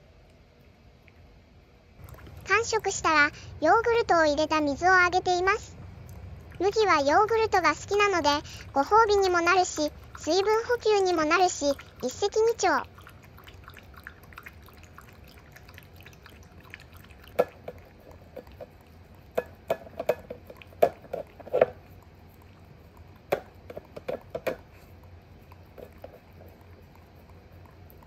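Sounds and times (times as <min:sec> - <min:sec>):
dog lapping water from bowl: 0:02.0 - 0:04.1, 0:05.8 - 0:28.0.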